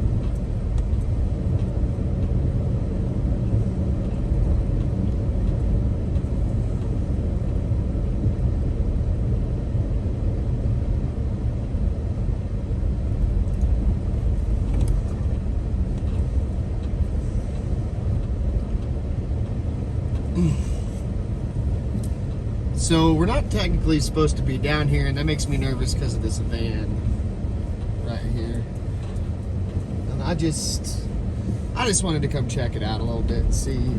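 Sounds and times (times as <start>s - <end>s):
engine and tyres rumbling: 0.0s - 33.9s.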